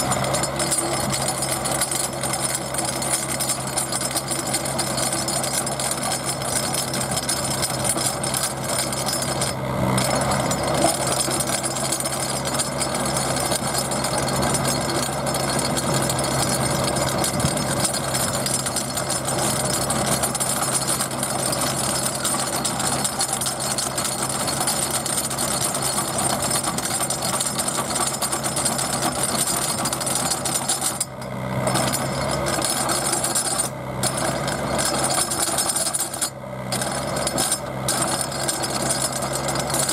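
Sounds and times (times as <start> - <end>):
auger grinding and rattling: 0.0 - 39.9
drill rig engine running: 0.0 - 39.9.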